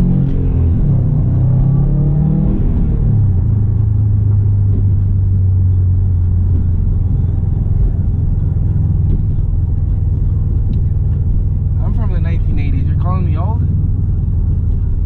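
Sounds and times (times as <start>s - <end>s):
car engine and exhaust drone: 0.0s - 15.0s.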